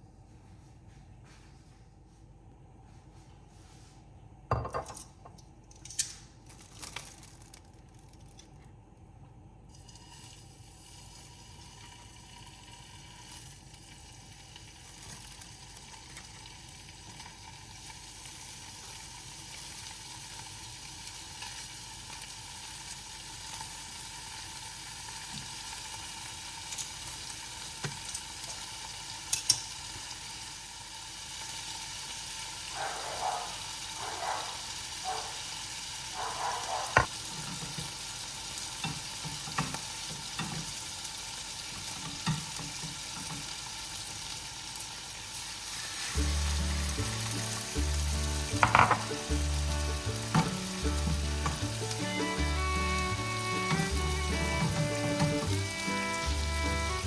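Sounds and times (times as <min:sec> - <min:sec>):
food sizzling in a pan: 0:09.7 - 0:57.0.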